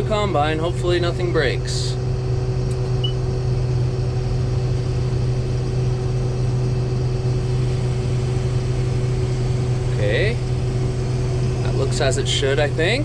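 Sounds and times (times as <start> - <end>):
combine harvester engine and machinery: 0.0 - 13.0.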